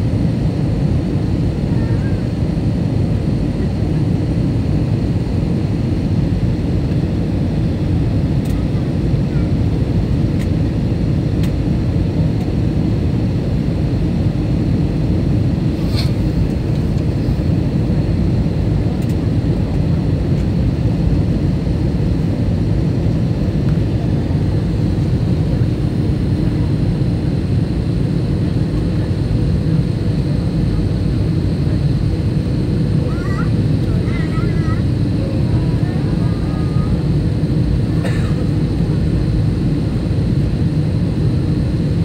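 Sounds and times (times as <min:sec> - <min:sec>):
airplane cabin engine noise: 0:00.0 - 0:42.0.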